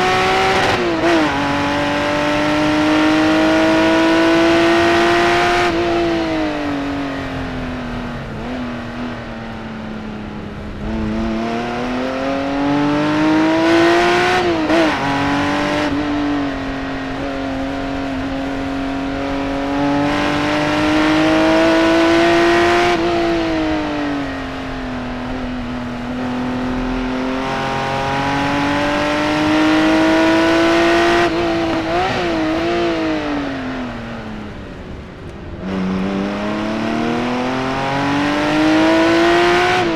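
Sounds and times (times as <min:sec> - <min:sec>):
racing car engine accelerating: 0:00.0 - 0:09.1, 0:10.6 - 0:34.3, 0:35.6 - 0:39.9.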